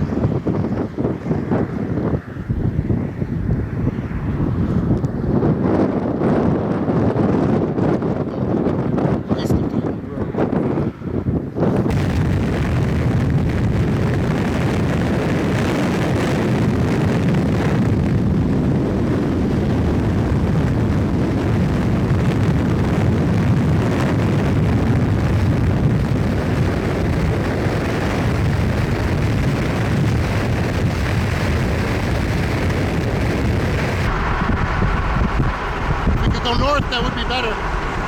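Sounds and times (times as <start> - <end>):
car road noise: 0.0 - 9.2, 9.8 - 38.0
rushing wind: 0.0 - 38.0
wind buffeting microphone: 0.0 - 38.0.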